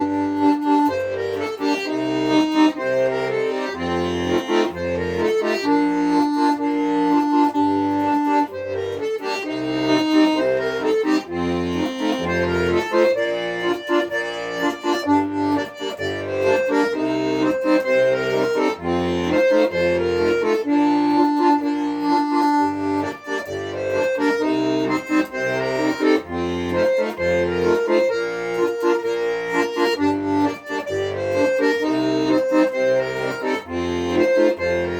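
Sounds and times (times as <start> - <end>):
accordion playing a tune: 0.0 - 34.9.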